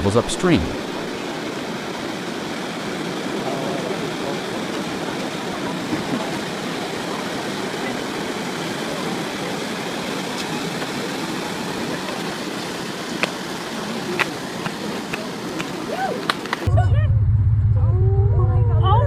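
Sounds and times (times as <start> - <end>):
rushing water roar: 0.0 - 16.7.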